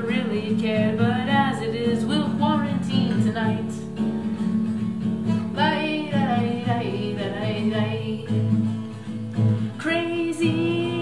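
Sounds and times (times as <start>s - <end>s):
woman singing: 0.0s - 4.6s, 5.2s - 11.0s
acoustic guitar strumming: 0.0s - 11.0s.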